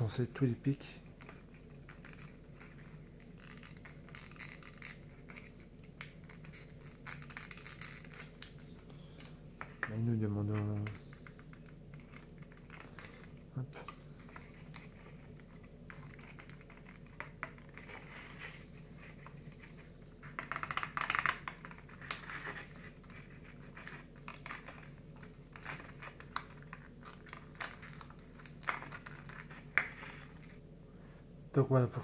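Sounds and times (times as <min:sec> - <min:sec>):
card crackling: 0:01.2 - 0:30.6.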